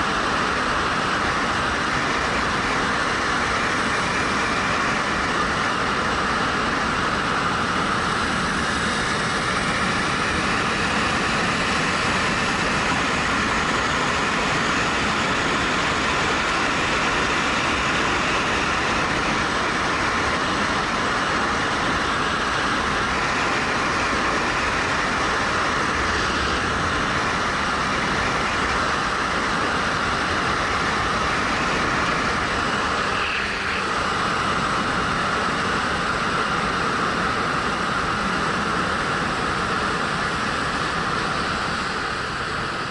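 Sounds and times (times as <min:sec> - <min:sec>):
road noise: 0:00.0 - 0:42.9
wind rush: 0:00.0 - 0:42.9.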